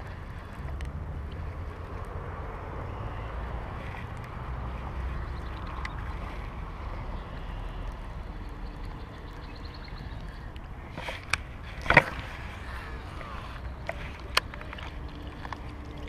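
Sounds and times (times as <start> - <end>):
fishing reel ticking: 0.0 - 16.0
steady outdoor hiss: 0.0 - 16.0
wind rumbling on microphone: 0.0 - 16.0.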